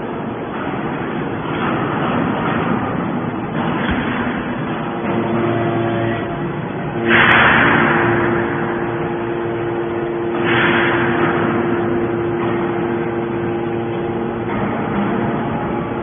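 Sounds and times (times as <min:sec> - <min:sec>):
hydraulic power unit humming: 0:00.0 - 0:16.0.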